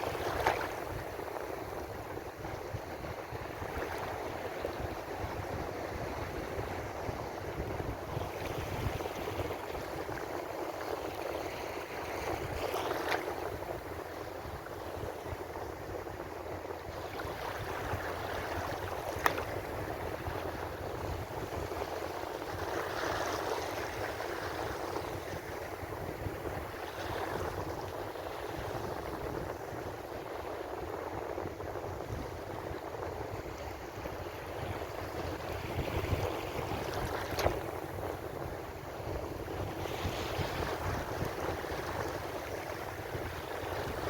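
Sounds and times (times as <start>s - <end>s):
ocean waves washing on shore: 0.0s - 44.0s.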